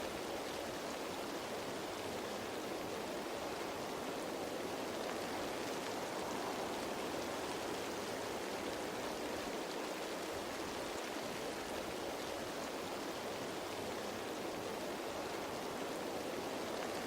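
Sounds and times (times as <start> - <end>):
rain pattering on leaves: 0.0 - 17.0.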